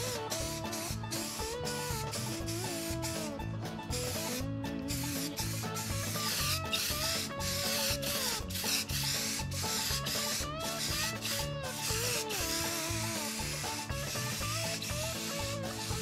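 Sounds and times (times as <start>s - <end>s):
background music with bass line: 0.0s - 16.0s
rough rubbing hiss: 0.0s - 16.0s.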